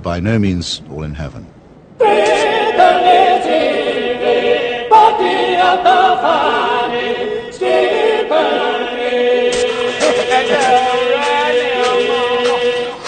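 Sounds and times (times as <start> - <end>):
choir singing held notes: 2.0 - 13.0.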